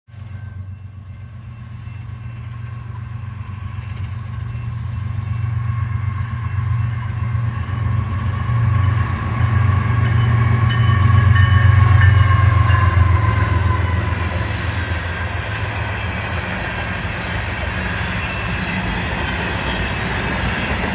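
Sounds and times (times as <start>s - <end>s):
diesel locomotive engine rumble: 0.1s - 20.9s.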